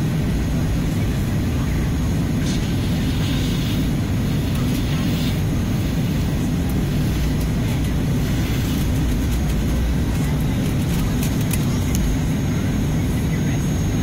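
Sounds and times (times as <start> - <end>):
jet engines low rumble: 0.0 - 14.0.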